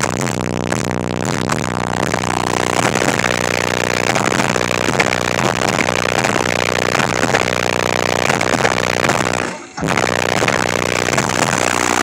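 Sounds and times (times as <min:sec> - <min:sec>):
loud bass-heavy music from subwoofers: 0:00.0 - 0:12.0.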